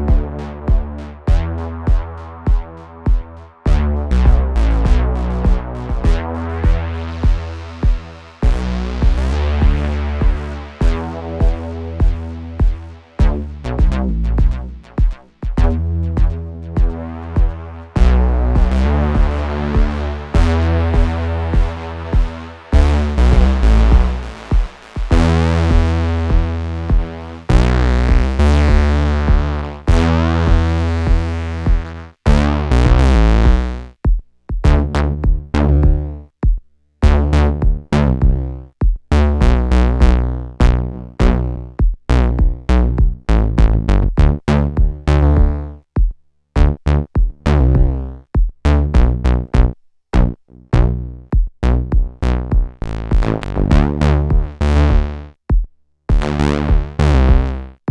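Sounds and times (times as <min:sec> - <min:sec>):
gritty synthesizer sequence: 0:00.0 - 0:34.0, 0:34.6 - 0:36.2, 0:39.1 - 0:45.8, 0:48.7 - 0:55.3, 0:56.1 - 0:57.9.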